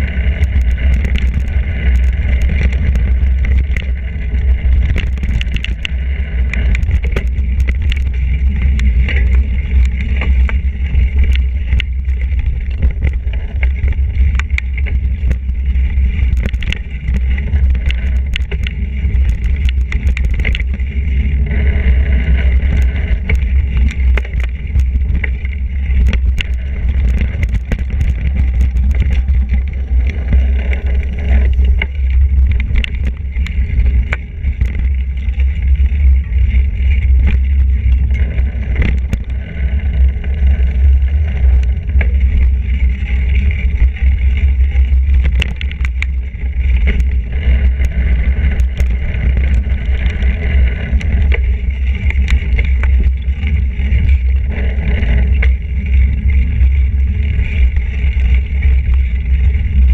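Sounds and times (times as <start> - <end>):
bike rattling over bumps: 0.0 - 59.9
wind rumble on microphone: 0.0 - 59.9.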